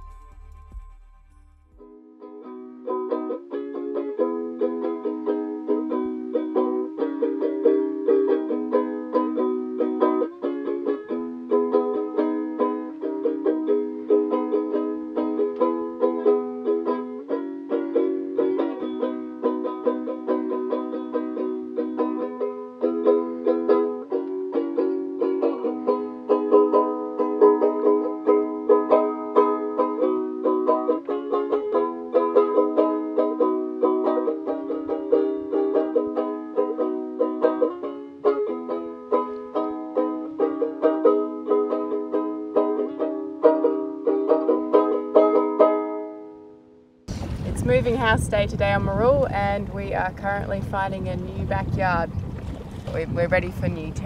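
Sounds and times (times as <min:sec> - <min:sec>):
ukulele playing: 0:00.0 - 0:50.5.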